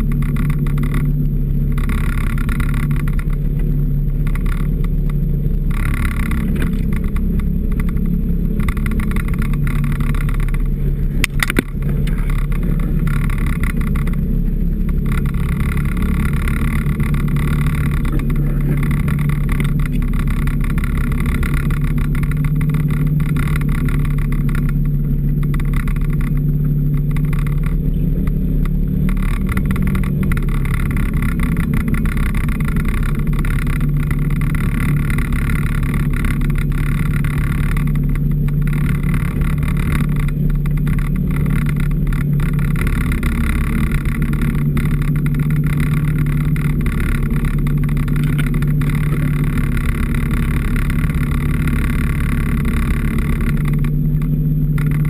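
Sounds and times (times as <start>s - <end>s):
snowmobile engine running: 0.0s - 55.0s
track and snow noise: 0.0s - 55.0s.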